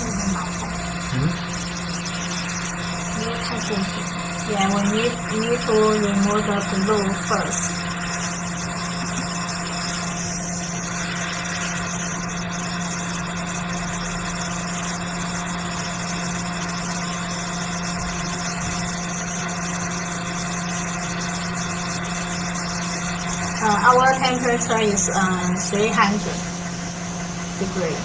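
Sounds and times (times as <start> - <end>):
hot-air rework station blowing: 0.0 - 28.0.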